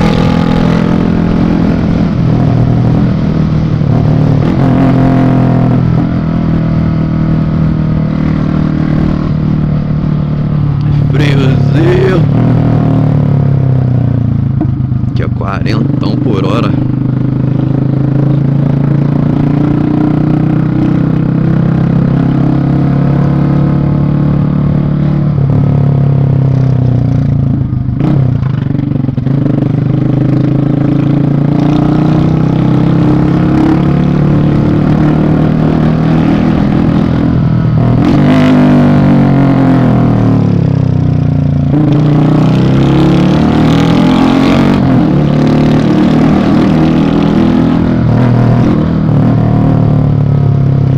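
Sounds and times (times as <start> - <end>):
motorcycle engine riding: 0.0 - 50.9.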